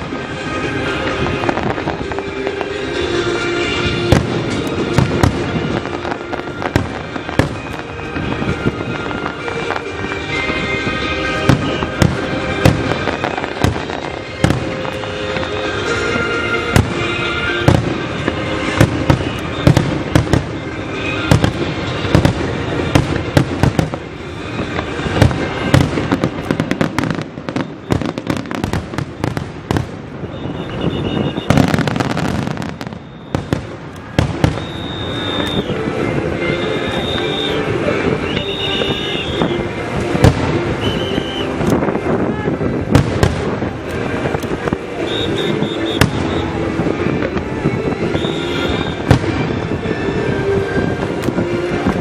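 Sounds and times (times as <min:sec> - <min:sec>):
hissing firework crackle: 0:00.0 - 0:52.0.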